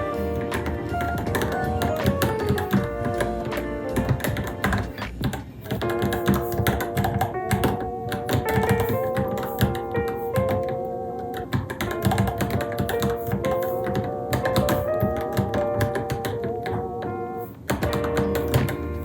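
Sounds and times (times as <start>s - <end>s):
background music with held notes: 0.0s - 19.0s
mechanical keyboard typing: 0.0s - 19.0s.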